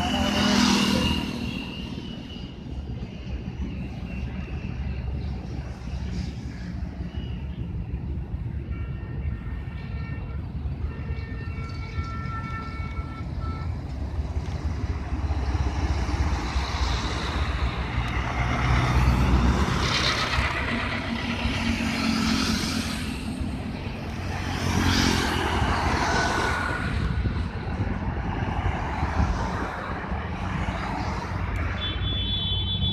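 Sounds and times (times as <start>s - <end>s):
motorcycles passing: 0.0s - 8.6s, 10.3s - 32.9s
steady low traffic rumble: 0.0s - 32.9s
vehicles passing by: 0.0s - 32.9s.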